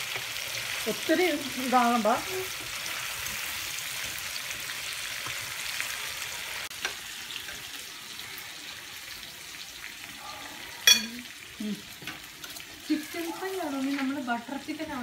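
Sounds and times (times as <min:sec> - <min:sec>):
chicken sizzling in frying pan: 0:00.0 - 0:15.0.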